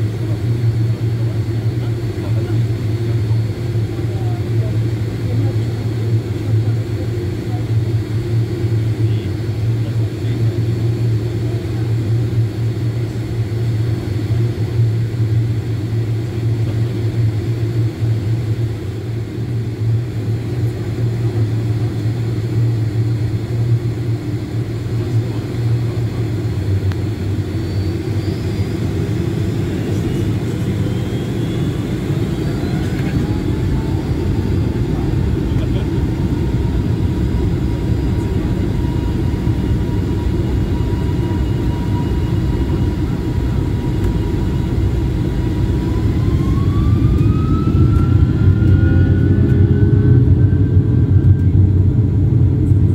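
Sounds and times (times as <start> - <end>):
jet engines idling in cabin: 0.0 - 52.9.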